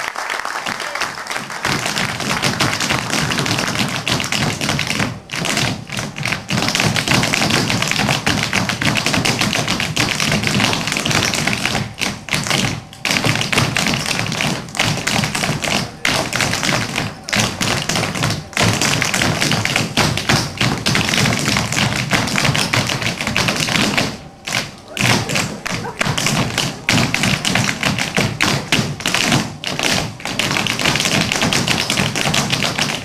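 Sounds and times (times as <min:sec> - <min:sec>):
dance shoes tapping on wooden floor: 0:01.6 - 0:33.0.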